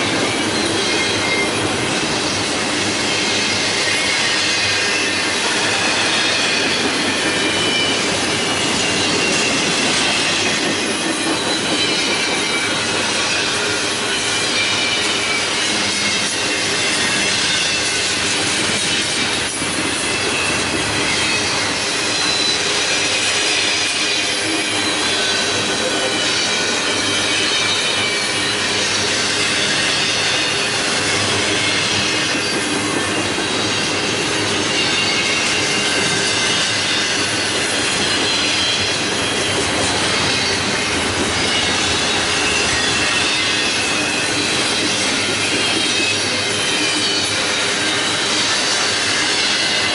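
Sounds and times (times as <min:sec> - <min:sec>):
freight train wheels clattering: 0:00.0 - 0:49.9
high wheel squeal: 0:00.0 - 0:49.9.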